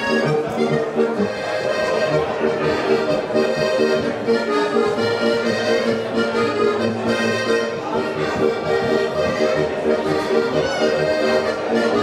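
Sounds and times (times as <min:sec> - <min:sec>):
button accordion playing folk tune: 0:00.0 - 0:12.0.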